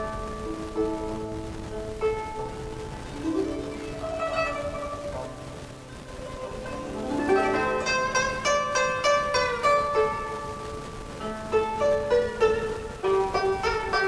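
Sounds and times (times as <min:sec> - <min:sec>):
plucked string music: 0:00.0 - 0:14.0.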